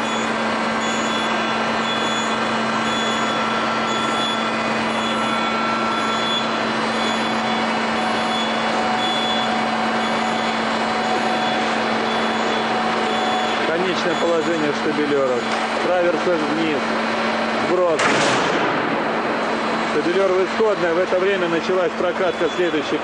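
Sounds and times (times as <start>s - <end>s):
thin machine whine: 0.0s - 18.0s, 19.5s - 23.0s
machine low hum: 0.0s - 23.0s.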